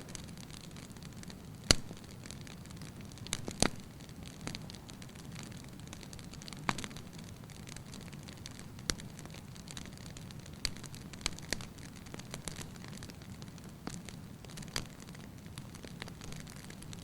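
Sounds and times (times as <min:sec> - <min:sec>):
fire rumbling in fireplace: 0:00.0 - 0:17.0
firewood crackling and popping: 0:00.0 - 0:17.0.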